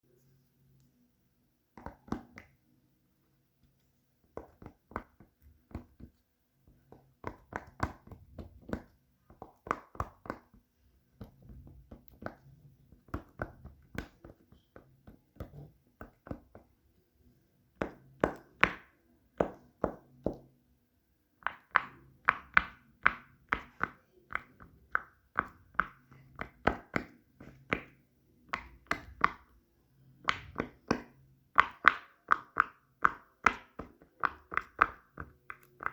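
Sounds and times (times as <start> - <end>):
fidget toys tapping and popping: 1.7 - 2.6, 4.2 - 16.8, 17.7 - 20.6, 21.4 - 35.9.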